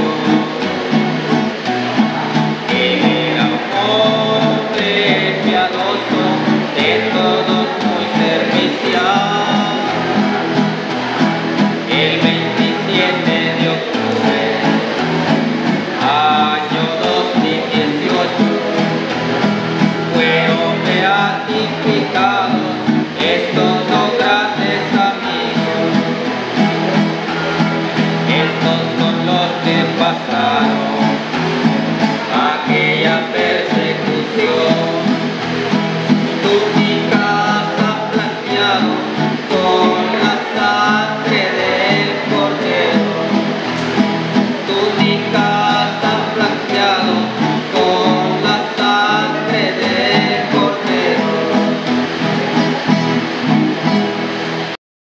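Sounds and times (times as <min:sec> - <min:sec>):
man singing: 0:00.0 - 0:53.0
acoustic guitars strummed: 0:00.0 - 0:54.8.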